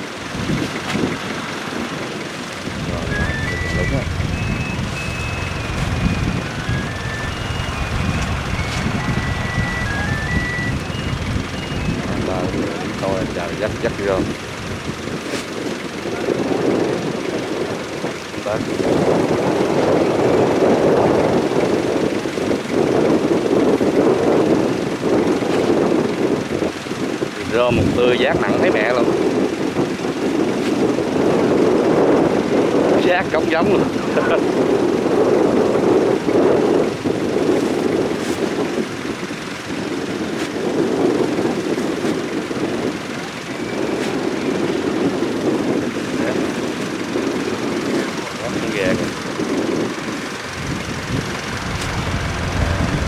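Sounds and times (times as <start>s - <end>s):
diesel engine running loudly: 0.0s - 53.0s.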